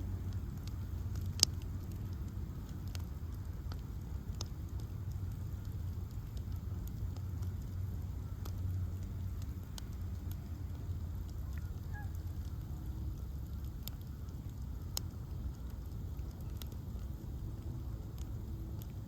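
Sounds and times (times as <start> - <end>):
bonfire flames rumbling: 0.0 - 19.0
fire crackles and pops: 0.0 - 19.0.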